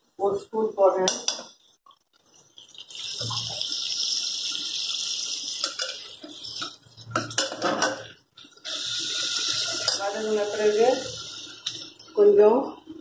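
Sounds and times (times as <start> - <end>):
vegetables sizzling in a pot: 0.8 - 13.0.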